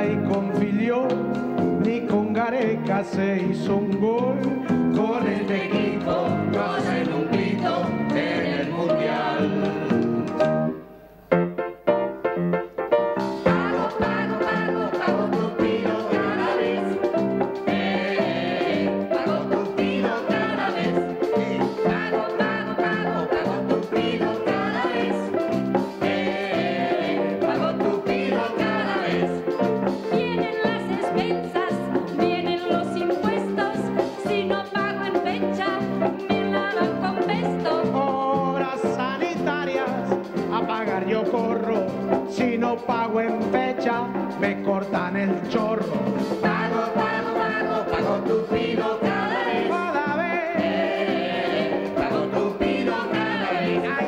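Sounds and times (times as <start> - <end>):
live band playing upbeat song: 0.0 - 54.0.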